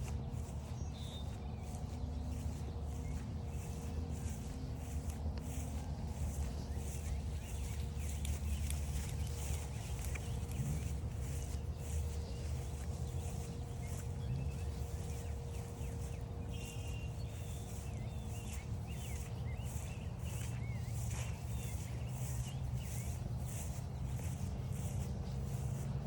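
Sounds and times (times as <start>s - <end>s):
footsteps crunching on trail: 0.0s - 26.0s
songbirds chirping: 0.0s - 26.0s
steady low rumble: 0.0s - 26.0s.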